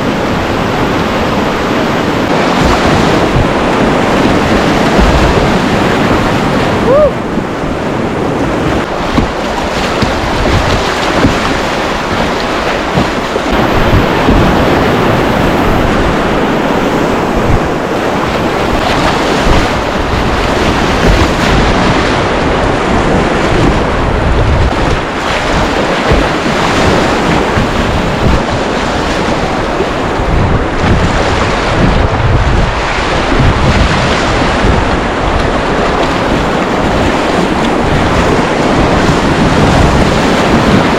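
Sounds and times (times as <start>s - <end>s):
river rushing: 0.0s - 40.9s
wind noise on microphone: 0.0s - 40.9s.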